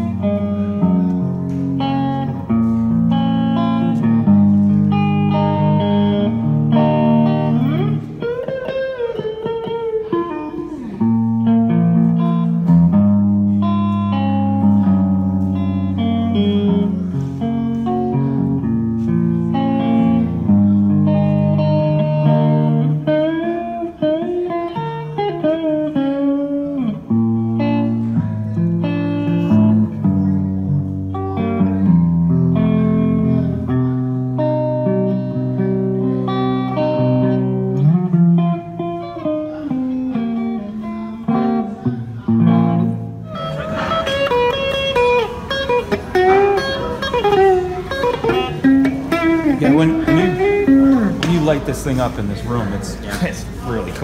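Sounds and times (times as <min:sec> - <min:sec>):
electric guitar solo: 0:00.0 - 0:53.7.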